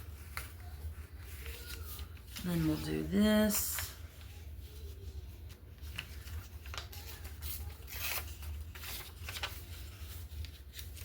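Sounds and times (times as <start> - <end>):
paper rustling by hand: 0.0 - 11.0.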